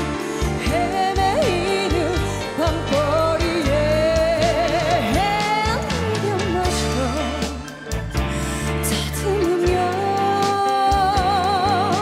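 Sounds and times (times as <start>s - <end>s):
woman singing into microphone: 0.0s - 7.8s, 8.8s - 12.0s
live band with bass beat: 0.0s - 12.0s.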